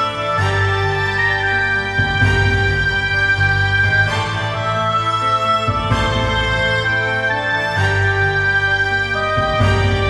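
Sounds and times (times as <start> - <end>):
sustained instrumental chords: 0.0 - 10.0.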